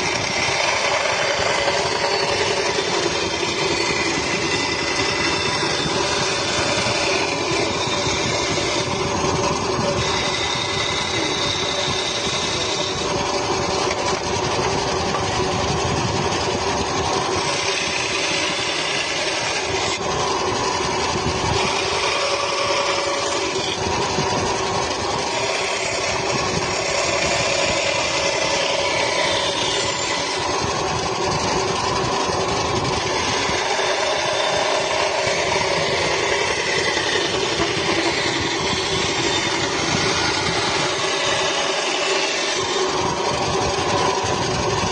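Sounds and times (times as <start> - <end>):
motor-driven machine running: 0.0 - 44.9.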